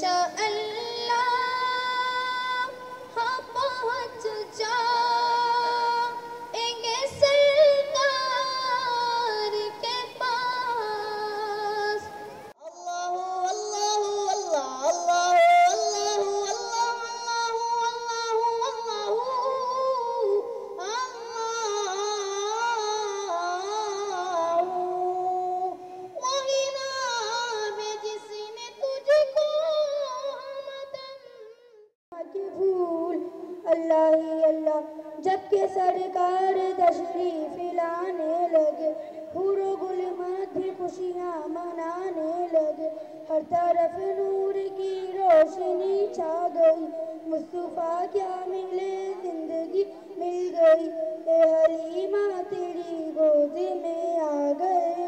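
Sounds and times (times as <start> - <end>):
child chanting: 0.0 - 55.0.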